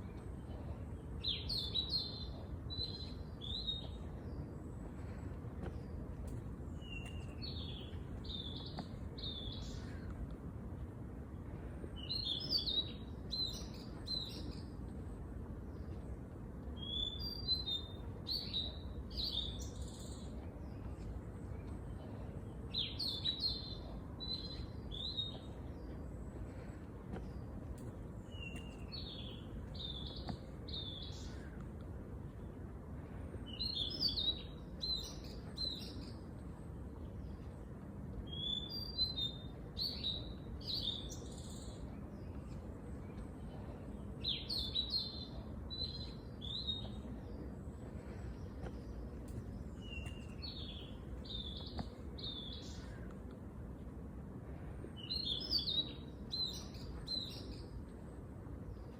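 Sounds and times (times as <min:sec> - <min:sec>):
low background rumble: 0:00.0 - 0:58.9
songbird chirping: 0:00.0 - 0:58.9.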